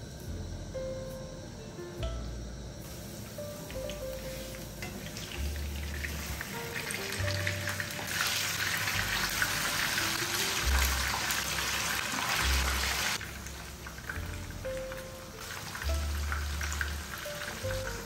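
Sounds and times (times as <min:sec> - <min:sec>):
chicken sizzling in hot oil: 0:02.8 - 0:18.0.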